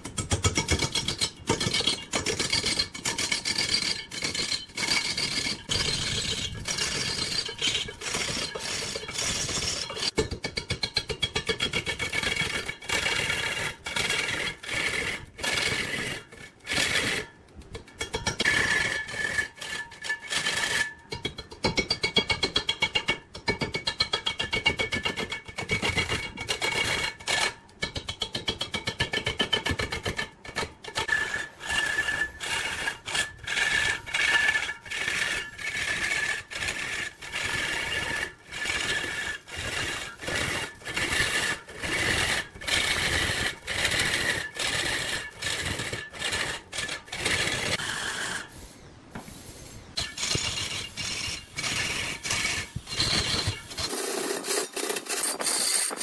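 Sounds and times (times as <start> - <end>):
lathe tool scraping wood: 0.0 - 21.1, 25.0 - 28.4, 29.1 - 56.0.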